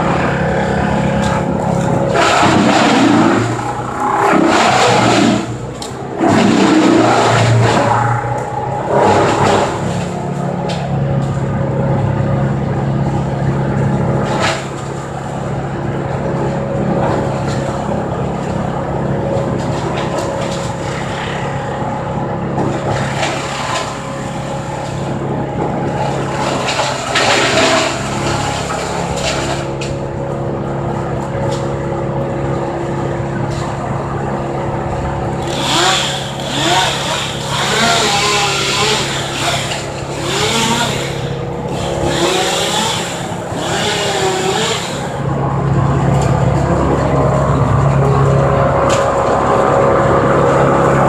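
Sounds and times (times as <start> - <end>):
engine running and revving: 0.0 - 51.0.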